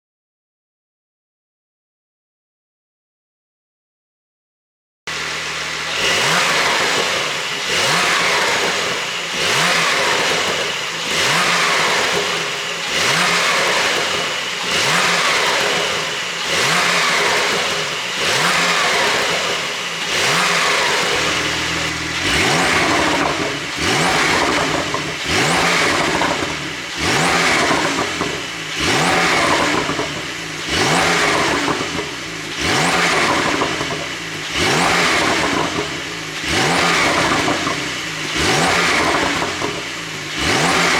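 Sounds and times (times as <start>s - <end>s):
car engine revving: 5.1s - 40.9s
exhaust popping and crackling: 5.1s - 40.9s.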